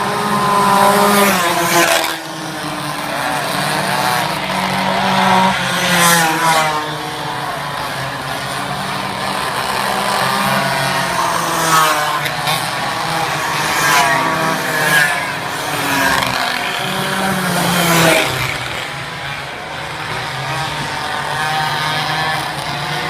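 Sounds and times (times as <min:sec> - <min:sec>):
minibike engines revving: 0:00.0 - 0:23.0.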